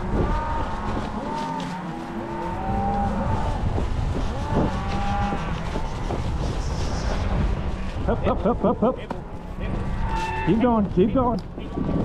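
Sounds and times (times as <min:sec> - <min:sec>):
cows bawling: 0:00.0 - 0:10.8
low rumble: 0:00.0 - 0:12.0.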